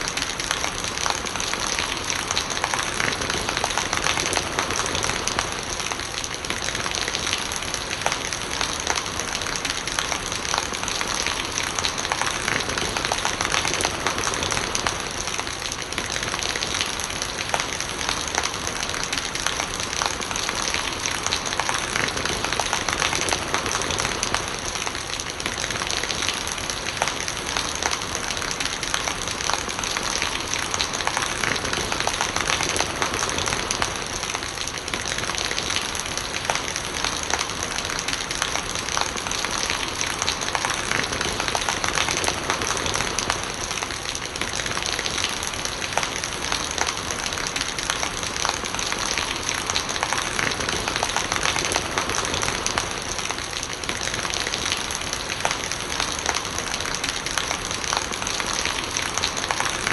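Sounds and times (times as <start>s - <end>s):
rain falling: 0.0s - 59.9s
rainwater gurgling: 0.0s - 59.9s.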